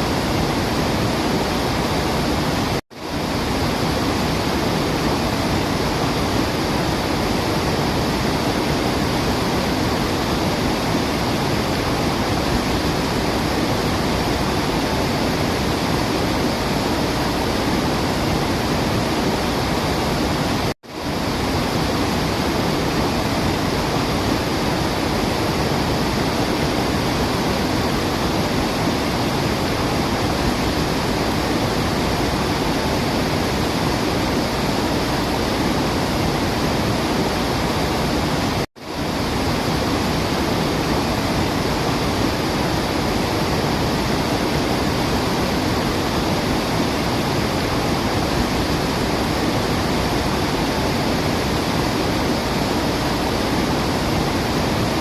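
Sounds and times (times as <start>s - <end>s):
rushing falling water: 0.0s - 55.0s.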